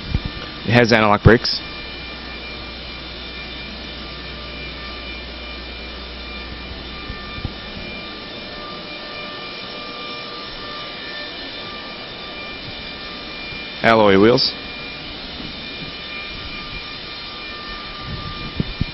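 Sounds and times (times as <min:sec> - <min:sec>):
low hum: 0:00.0 - 0:18.9
mechanical drone with whine: 0:00.0 - 0:18.9.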